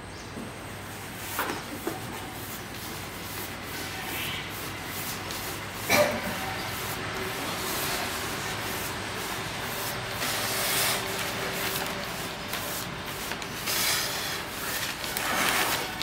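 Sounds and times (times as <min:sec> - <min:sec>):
brush rubbing on paper: 0:01.2 - 0:16.0.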